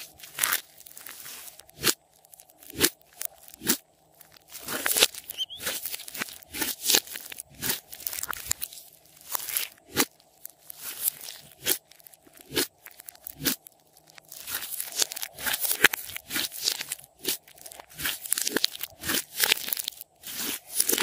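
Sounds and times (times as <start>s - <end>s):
slime popping and crackling: 0.0s - 21.0s.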